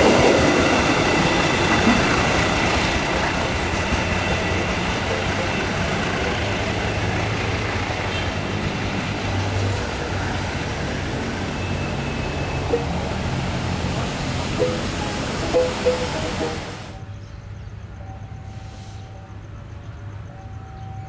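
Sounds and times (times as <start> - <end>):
train running on rails: 0.0 - 21.0.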